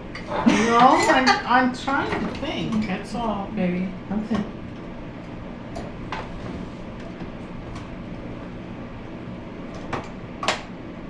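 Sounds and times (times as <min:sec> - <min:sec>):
steady low room hum: 0:00.0 - 0:11.0.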